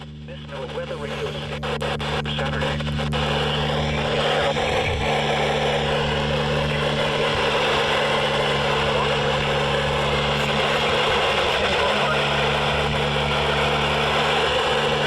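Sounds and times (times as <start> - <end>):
low hum: 0.0 - 15.0
radio static hiss: 0.0 - 15.0.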